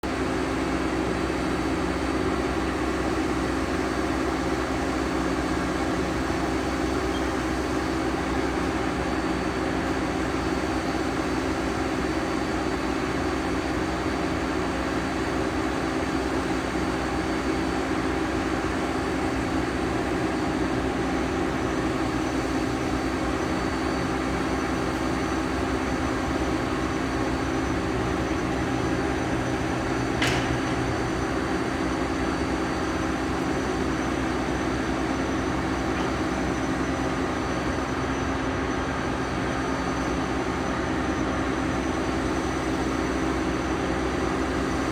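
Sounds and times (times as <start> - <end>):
machine mechanical hum: 0.1 - 44.9.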